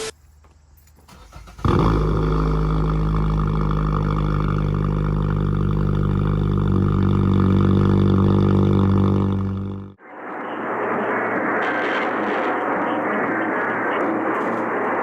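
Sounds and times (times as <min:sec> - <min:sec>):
low buzzing drone: 0:01.6 - 0:15.0.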